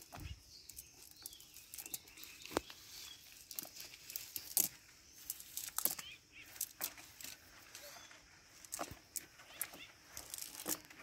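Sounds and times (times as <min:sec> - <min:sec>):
net rustling on dry ground: 0:00.0 - 0:11.0.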